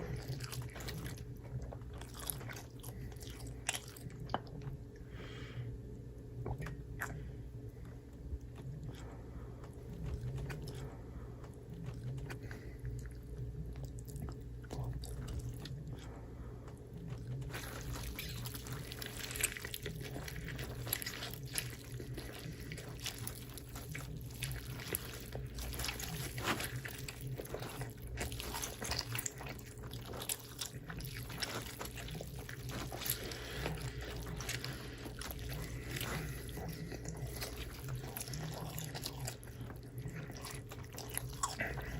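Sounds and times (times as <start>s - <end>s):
chewing and crunching: 0.0s - 5.2s, 5.8s - 41.9s
low hum: 0.0s - 41.9s.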